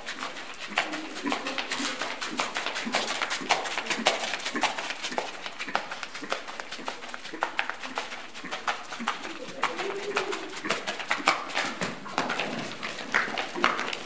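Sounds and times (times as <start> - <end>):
horse hoofbeats on sand: 0.0 - 14.0.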